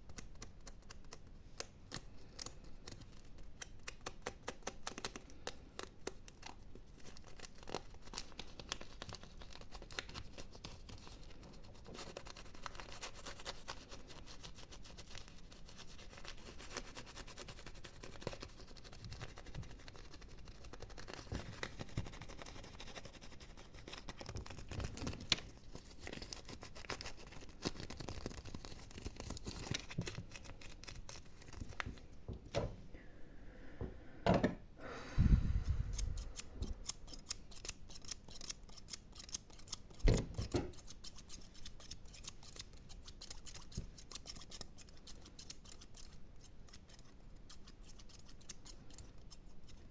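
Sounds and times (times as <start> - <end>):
small scratches and clicks: 0.0 - 32.1, 35.6 - 49.9.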